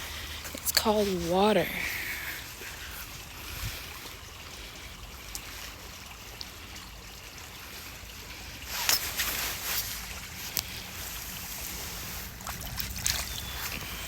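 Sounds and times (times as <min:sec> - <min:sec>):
rustle: 0:00.0 - 0:14.0
water trickling: 0:00.0 - 0:14.0.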